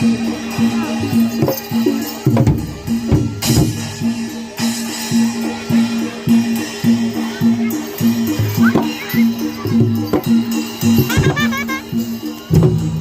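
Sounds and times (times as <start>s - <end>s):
drum strokes: 0.0s - 13.0s.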